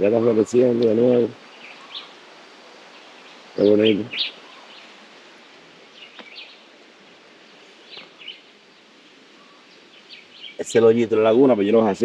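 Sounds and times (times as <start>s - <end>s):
birds chirping: 0.0s - 12.0s
outdoor background hiss: 0.0s - 12.0s.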